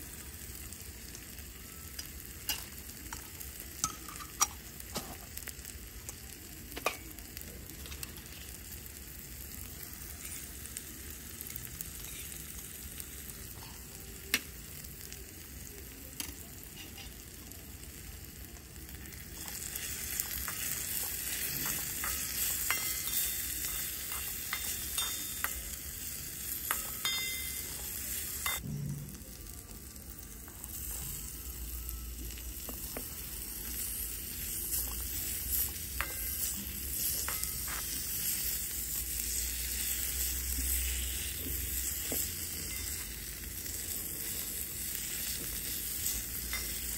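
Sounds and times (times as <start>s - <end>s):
food sizzling in a wok: 0.0s - 46.9s.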